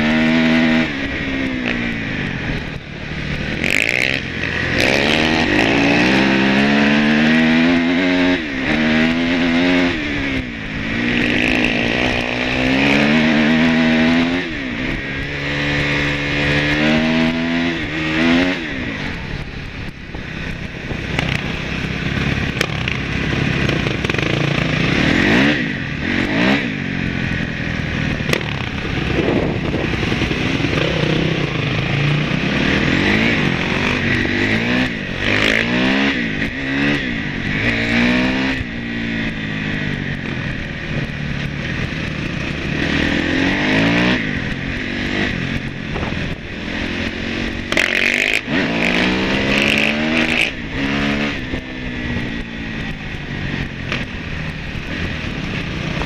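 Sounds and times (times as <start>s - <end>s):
dirt bike engine revving: 0.0s - 56.0s
wind and road noise: 0.0s - 56.0s.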